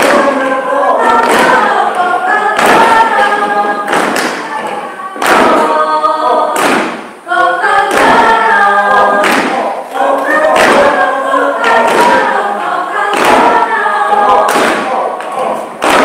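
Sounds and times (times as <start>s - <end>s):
group singing unaccompanied: 0.0s - 16.0s.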